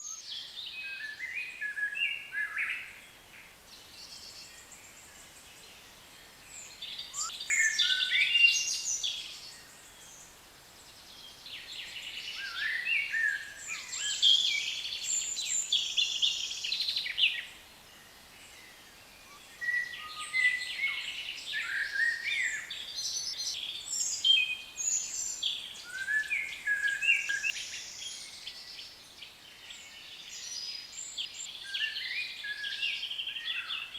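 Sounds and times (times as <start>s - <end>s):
birds chirping and warbling: 0.0s - 10.4s, 11.0s - 33.9s.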